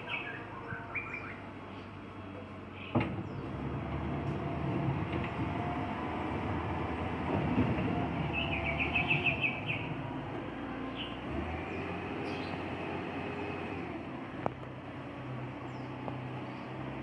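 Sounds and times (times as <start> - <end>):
bulldozer diesel engine under load: 0.0 - 17.0.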